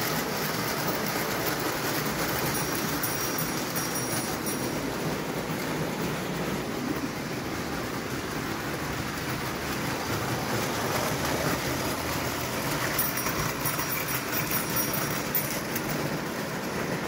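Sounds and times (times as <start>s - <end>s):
model trains running on metal track: 0.0s - 17.0s.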